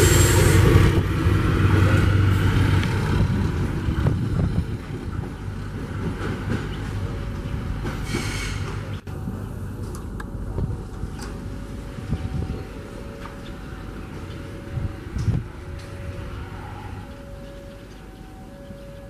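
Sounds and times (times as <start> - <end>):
rail rumble: 0.0 - 19.0
railcar engine hum: 0.0 - 19.0.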